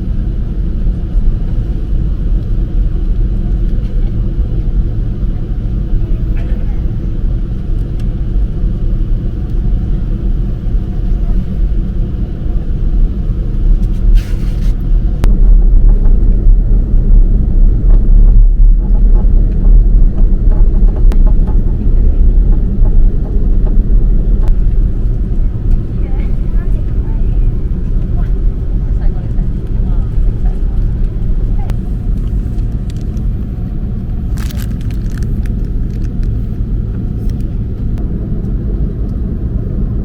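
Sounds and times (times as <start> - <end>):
aircraft engines rumbling in cabin: 0.0 - 40.0.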